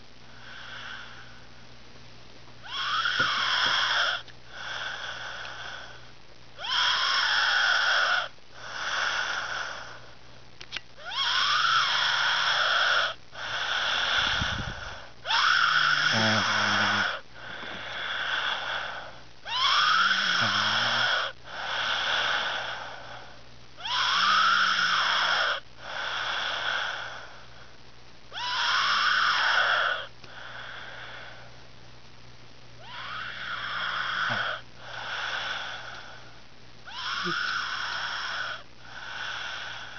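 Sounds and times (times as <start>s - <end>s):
person snoring with wheezing whine: 0.0s - 1.6s, 2.6s - 10.2s, 11.0s - 31.7s, 32.8s - 39.9s.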